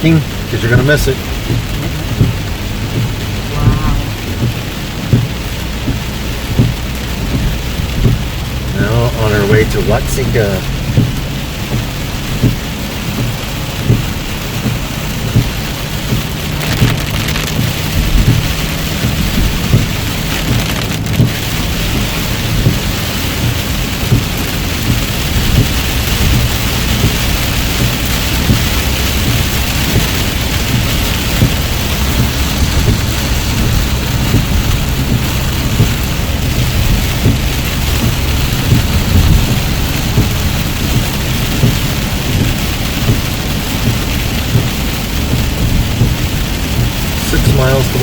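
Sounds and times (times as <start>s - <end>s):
heavy rain on car roof: 0.0s - 48.0s
road noise rumble: 0.0s - 48.0s.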